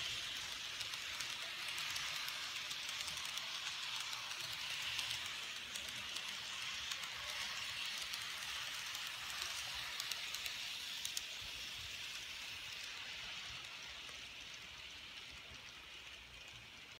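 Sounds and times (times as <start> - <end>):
model train whirring on track: 0.0 - 17.0.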